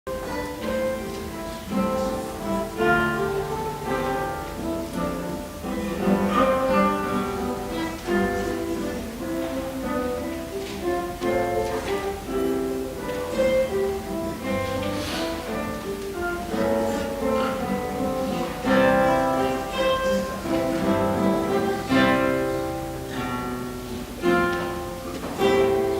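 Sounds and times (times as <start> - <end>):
guitar playing plucked melody: 0.1 - 25.9.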